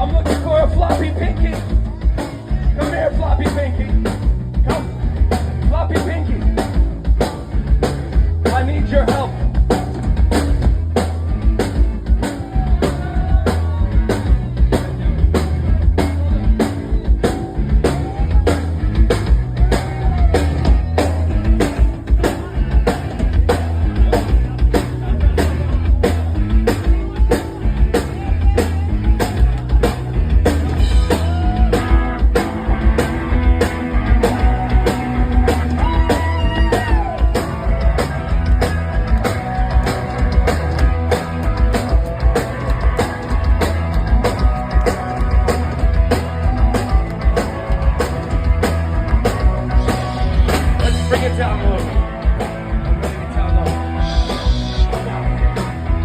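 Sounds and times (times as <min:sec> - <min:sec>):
bass guitar: 0:00.0 - 0:56.0
drum kit with heavy kick: 0:00.0 - 0:56.0
electric guitar: 0:00.0 - 0:56.0.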